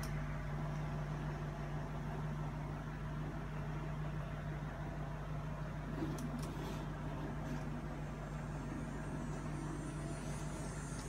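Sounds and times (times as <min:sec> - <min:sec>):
hoverboard motors humming: 0:00.0 - 0:11.0.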